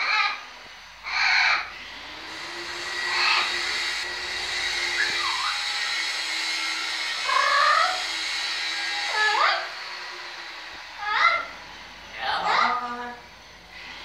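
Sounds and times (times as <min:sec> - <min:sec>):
parrot calling: 0:00.0 - 0:13.2.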